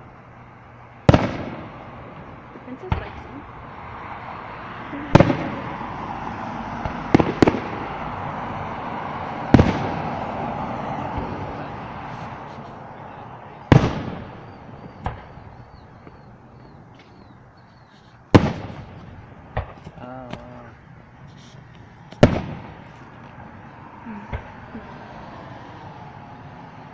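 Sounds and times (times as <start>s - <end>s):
crackling hiss: 0.0s - 26.9s
fireworks bangs: 1.0s - 3.4s, 5.0s - 23.6s, 24.2s - 24.8s.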